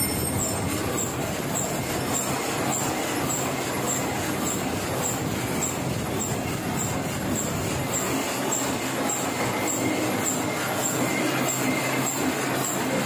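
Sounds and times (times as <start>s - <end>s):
printing press running: 0.0s - 13.0s.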